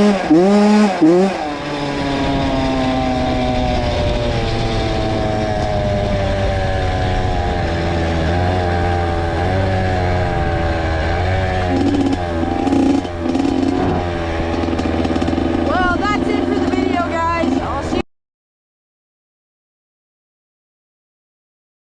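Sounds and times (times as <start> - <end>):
two-stroke dirt bike engine: 0.0 - 18.0.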